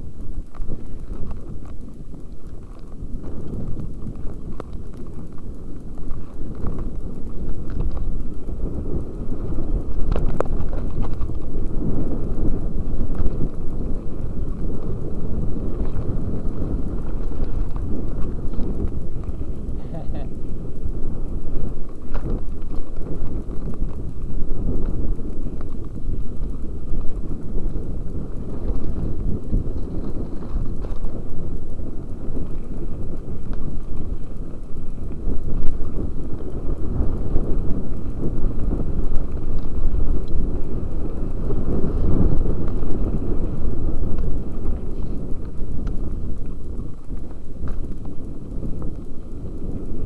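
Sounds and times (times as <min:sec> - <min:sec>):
bike clicks: 0:00.0 - 0:50.0
wind on microphone: 0:00.0 - 0:50.0.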